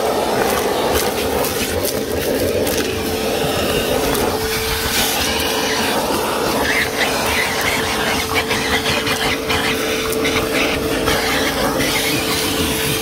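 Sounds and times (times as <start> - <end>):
shop vacuum running: 0.0 - 13.0.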